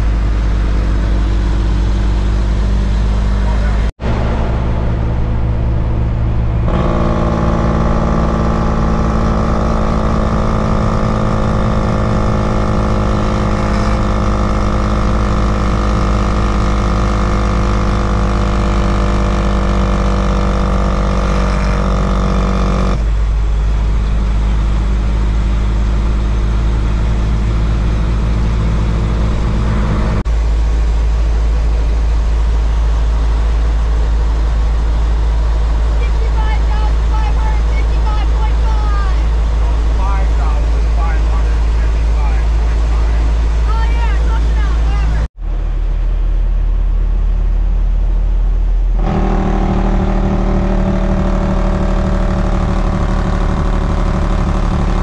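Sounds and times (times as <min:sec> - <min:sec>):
road noise: 0:00.0 - 0:55.0
truck diesel engine cruising: 0:00.0 - 0:55.0.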